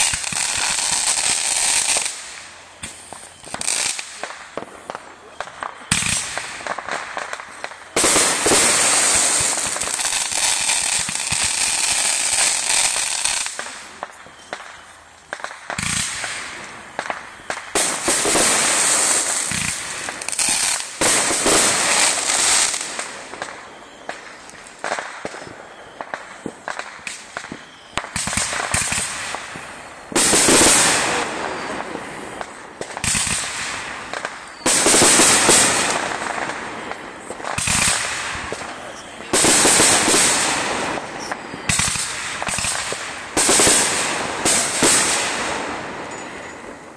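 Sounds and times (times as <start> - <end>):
fireworks bangs: 0.0 - 46.9
fireworks crackling: 0.0 - 46.9.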